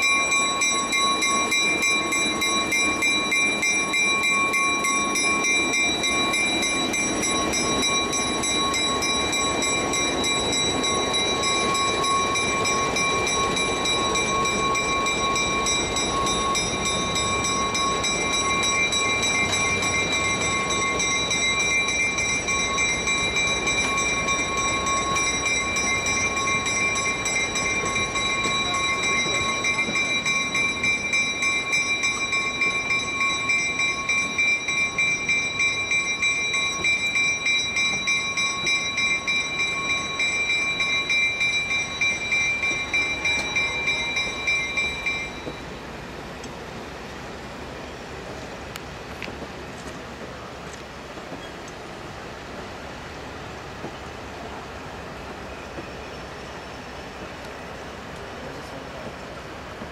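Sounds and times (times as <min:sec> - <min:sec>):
train coaches rumbling on rails: 0:00.0 - 0:59.9.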